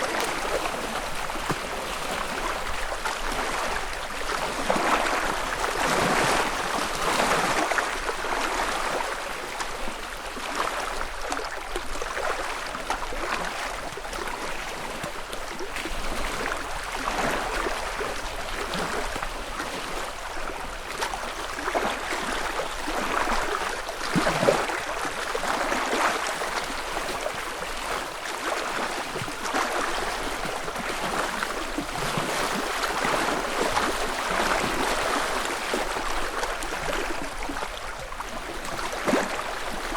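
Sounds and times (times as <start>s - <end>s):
ripples lapping against shore: 0.0s - 39.9s
small water splash: 0.0s - 39.9s.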